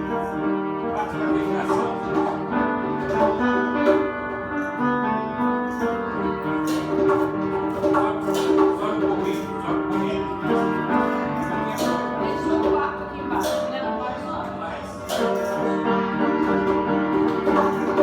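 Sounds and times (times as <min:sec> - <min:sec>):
piano playing chords: 0:00.0 - 0:18.0.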